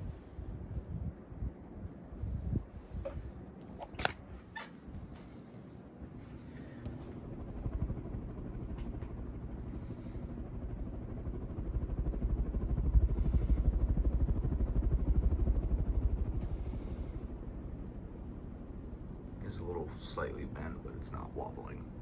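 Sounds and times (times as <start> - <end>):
ceiling fan whooshing: 0.0 - 22.0.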